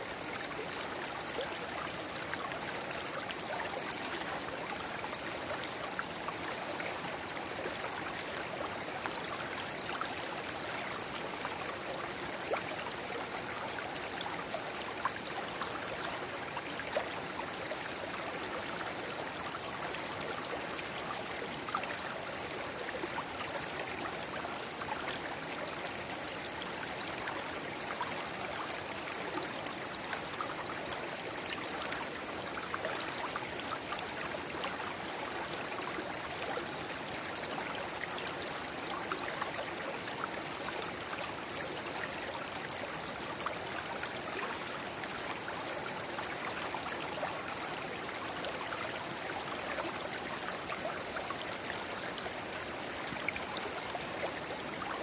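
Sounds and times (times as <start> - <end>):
brook pouring into river: 0.0 - 55.0
river babbling: 0.0 - 55.0.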